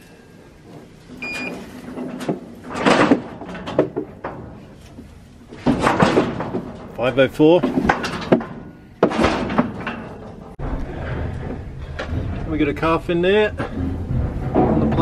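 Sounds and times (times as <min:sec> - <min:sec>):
metal rattling and banging: 0:01.0 - 0:15.0.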